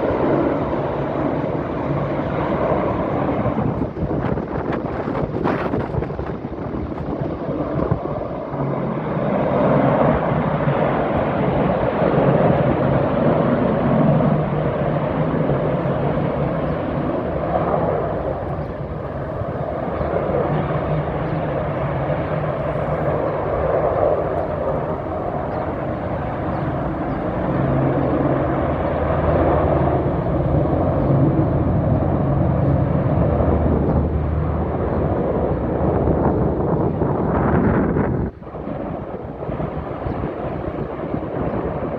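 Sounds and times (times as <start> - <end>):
helicopters flying over: 0.0 - 41.9.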